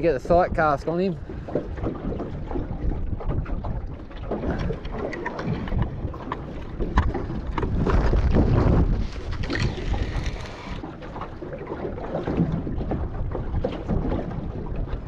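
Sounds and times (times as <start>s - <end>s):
water lapping at hull: 0.0s - 15.0s
wind buffeting microphone: 0.0s - 15.0s.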